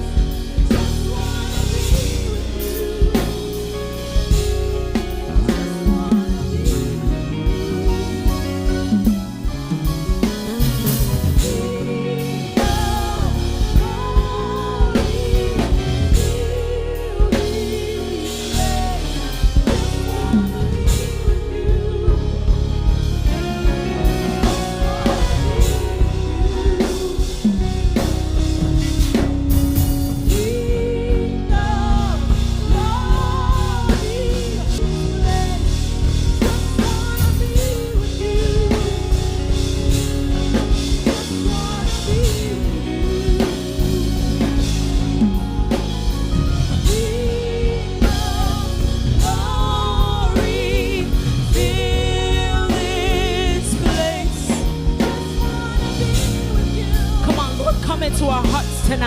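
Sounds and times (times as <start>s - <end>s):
worship band music: 0.0s - 59.0s.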